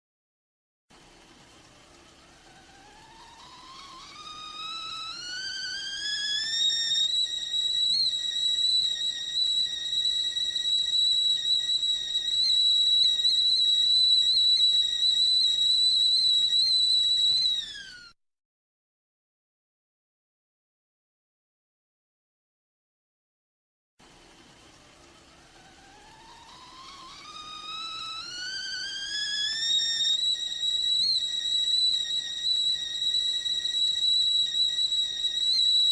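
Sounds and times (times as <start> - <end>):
kettle whistling: 0.9 - 18.2, 24.1 - 35.9.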